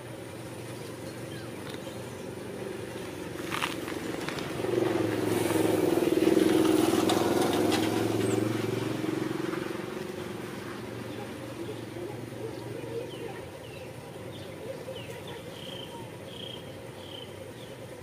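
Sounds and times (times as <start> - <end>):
vehicle engine hum passing: 0.0 - 18.0.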